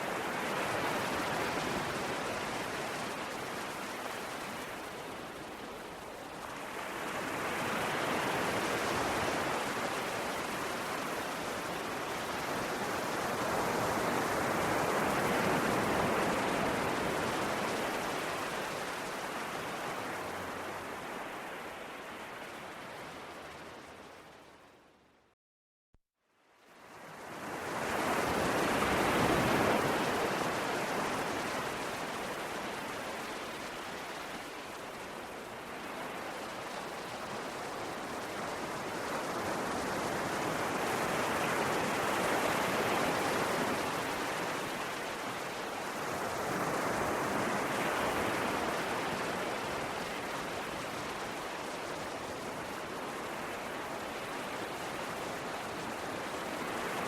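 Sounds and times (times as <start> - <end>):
sea waves breaking on shore: 0.0 - 24.4, 26.7 - 57.0.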